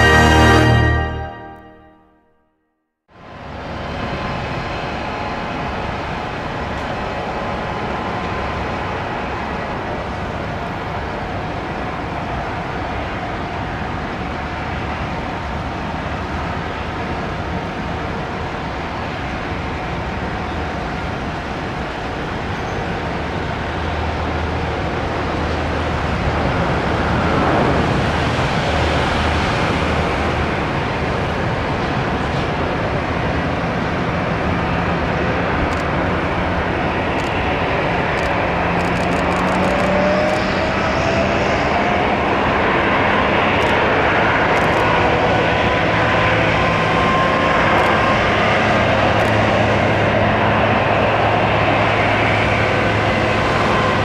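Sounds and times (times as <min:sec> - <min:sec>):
jet engine whine: 0:03.2 - 0:54.0.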